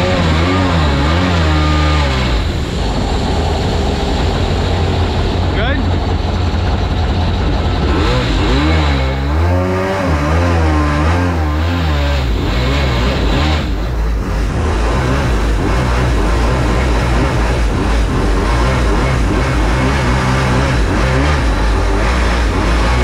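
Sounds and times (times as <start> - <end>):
jet boat engine running: 0.0 - 23.0.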